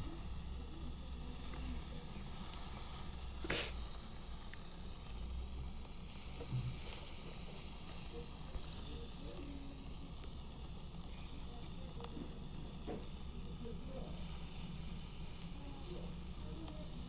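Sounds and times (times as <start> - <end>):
food sizzling on a grill: 0.0 - 17.0.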